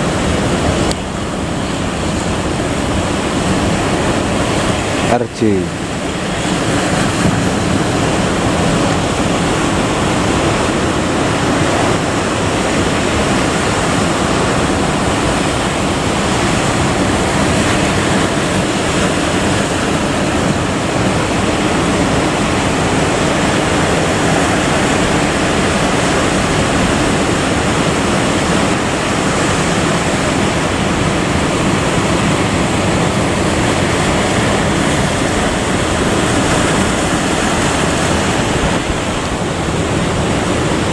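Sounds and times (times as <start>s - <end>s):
sea surf: 0.0s - 40.9s
wind buffeting the microphone: 0.0s - 40.9s.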